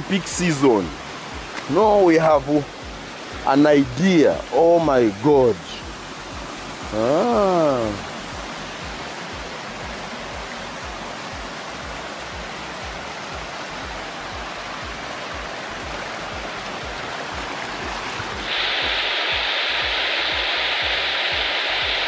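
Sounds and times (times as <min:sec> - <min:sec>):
background music with low beat: 0:00.0 - 0:22.0
waterfall rushing: 0:00.0 - 0:22.0.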